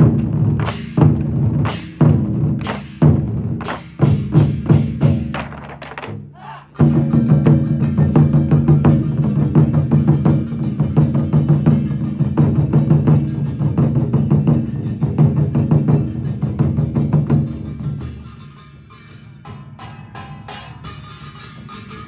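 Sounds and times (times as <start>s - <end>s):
barrel drums beaten with sticks: 0.0s - 6.2s, 6.8s - 18.2s, 19.4s - 22.0s.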